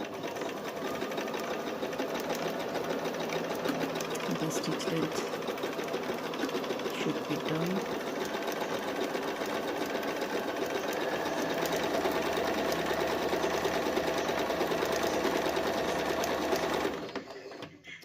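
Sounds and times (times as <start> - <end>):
sewing machine running: 0.0 - 17.8.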